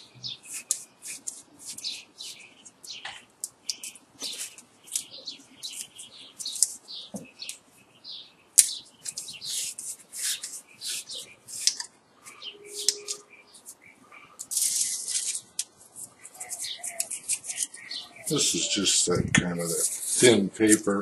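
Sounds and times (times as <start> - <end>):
insulating paper crackling and scraping: 0.4 - 7.0, 9.0 - 21.0.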